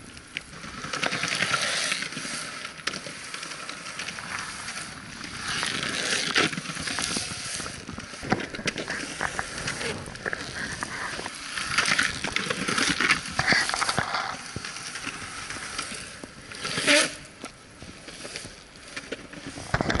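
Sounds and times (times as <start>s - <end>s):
skateboard wheels rolling on stone: 0.0s - 20.0s.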